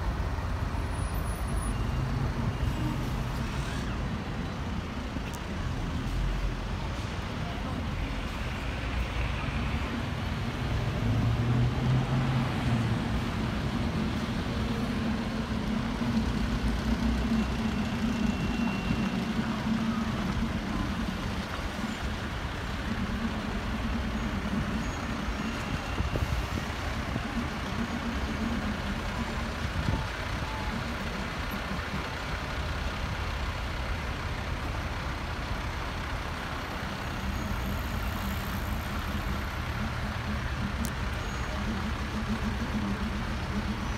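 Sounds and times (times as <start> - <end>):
diesel engines of passing trucks: 0.0 - 43.9.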